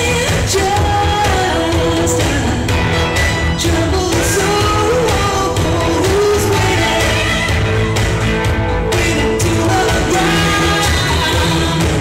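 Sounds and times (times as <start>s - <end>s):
song with singing over a beat: 0.0s - 12.0s.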